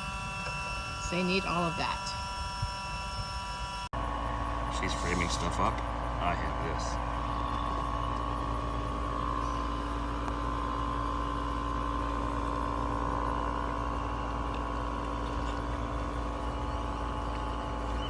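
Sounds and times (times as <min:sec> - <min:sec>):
vacuum motor humming: 0:00.0 - 0:18.0.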